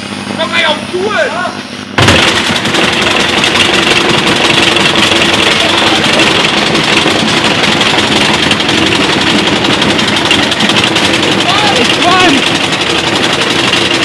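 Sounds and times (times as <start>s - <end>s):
washing machine rattling with brick: 2.0s - 14.0s.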